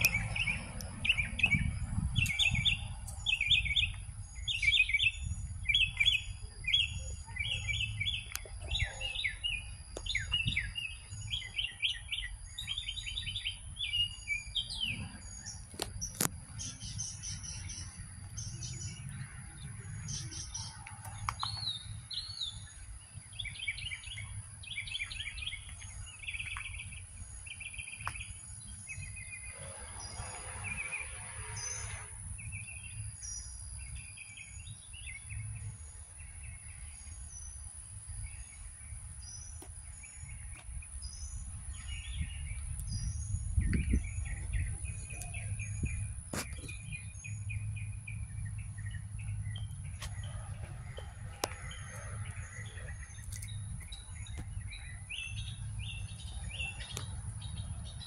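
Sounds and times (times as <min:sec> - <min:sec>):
songbirds singing and chirping: 0:00.0 - 0:58.0
steady low rumble: 0:00.0 - 0:58.0.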